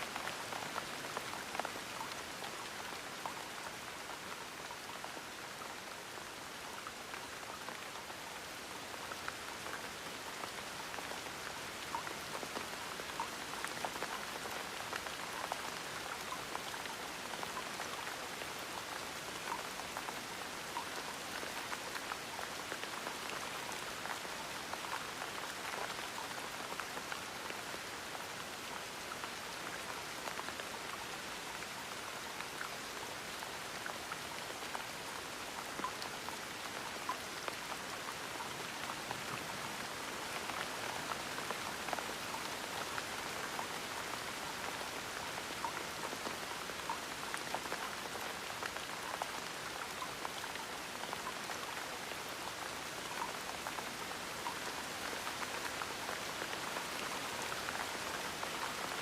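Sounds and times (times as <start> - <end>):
gentle rain pattering: 0.0 - 59.0.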